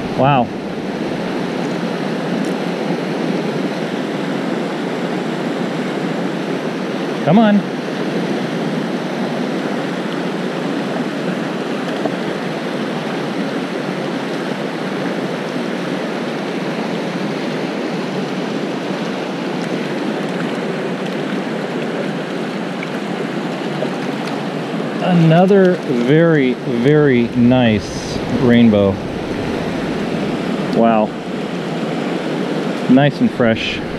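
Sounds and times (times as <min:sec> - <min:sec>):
water rushing over rocks: 0:00.0 - 0:33.9.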